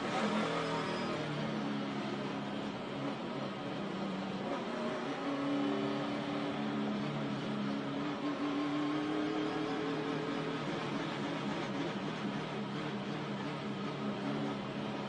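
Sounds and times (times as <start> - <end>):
race car engine at speed: 0.0 - 15.0.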